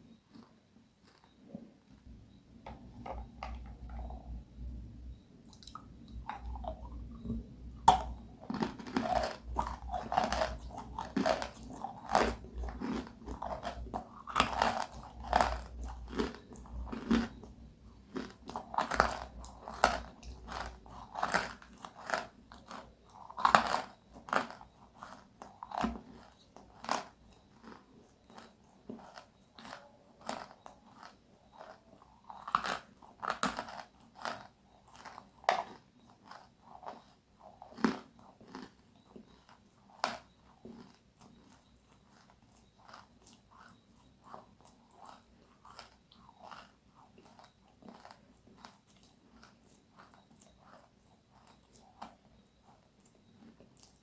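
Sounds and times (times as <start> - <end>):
chewing crunchy food: 0.0 - 54.0.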